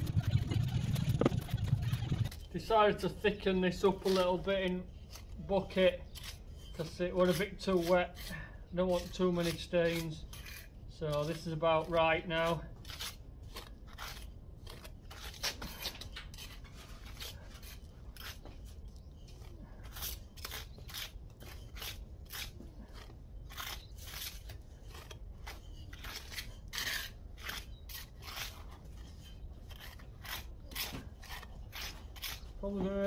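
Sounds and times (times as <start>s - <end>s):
trowels scraping mortar: 2.2s - 33.0s.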